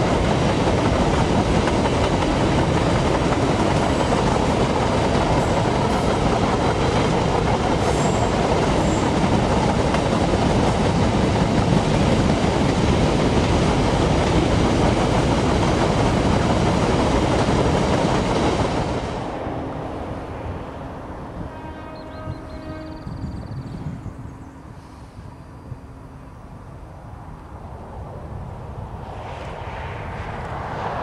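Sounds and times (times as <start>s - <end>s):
steel wheels rumbling on rails: 0.0s - 25.8s.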